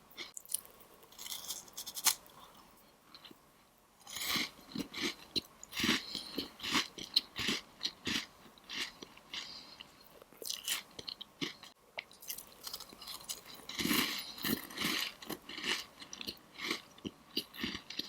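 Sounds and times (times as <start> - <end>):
crunching and chewing pastry: 0.2 - 3.4, 4.0 - 18.0.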